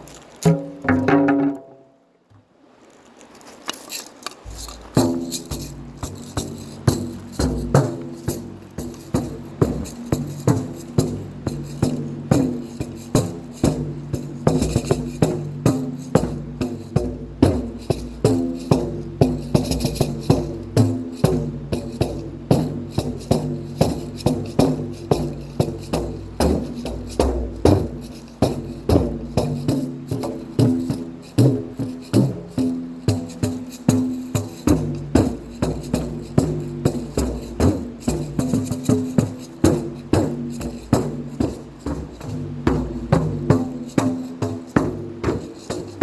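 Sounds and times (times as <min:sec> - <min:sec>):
maracas shaking: 0:00.0 - 0:01.9, 0:03.3 - 0:46.0
drums played in steady rhythm: 0:00.0 - 0:02.0, 0:04.4 - 0:46.0.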